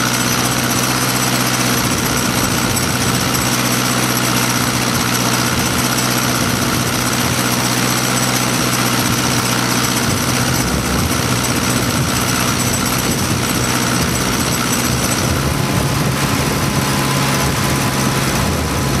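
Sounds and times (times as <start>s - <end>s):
radial engine chugging: 0.0s - 19.0s.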